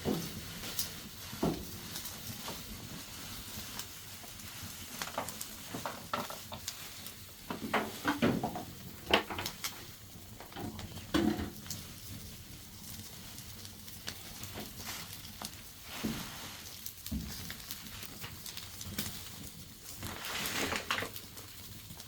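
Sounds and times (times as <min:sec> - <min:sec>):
utensil stirring in a pan: 0:00.0 - 0:09.5, 0:10.4 - 0:21.3
faint sizzle: 0:00.0 - 0:22.0.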